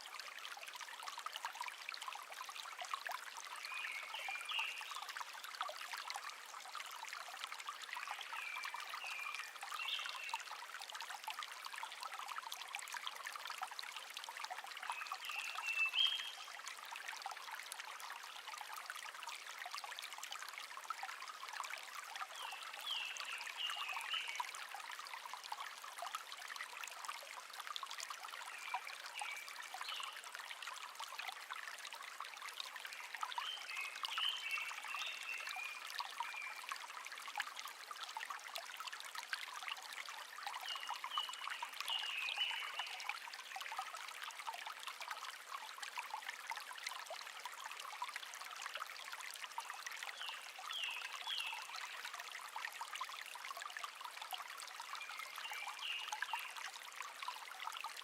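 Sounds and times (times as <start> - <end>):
brook babbling and trickling: 0.0 - 58.0.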